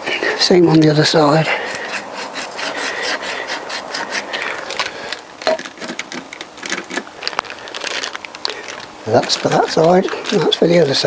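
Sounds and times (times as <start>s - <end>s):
emery paper scratching metal: 0.0s - 8.0s, 8.6s - 11.0s.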